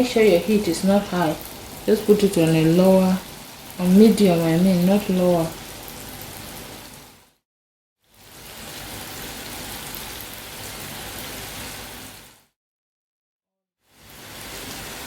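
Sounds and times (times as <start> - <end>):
dough frying in hot oil: 0.0 - 7.3, 8.0 - 12.5, 13.8 - 15.0.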